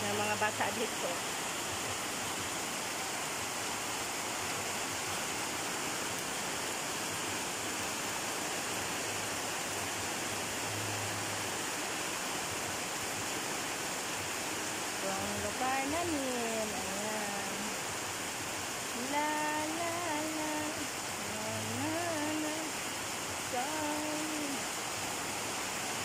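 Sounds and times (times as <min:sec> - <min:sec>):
rain on wet concrete: 0:00.0 - 0:26.0.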